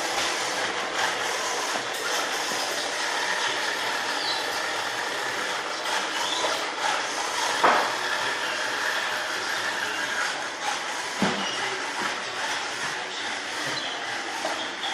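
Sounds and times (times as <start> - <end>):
robot vacuum cleaner whirring: 0.0 - 14.9.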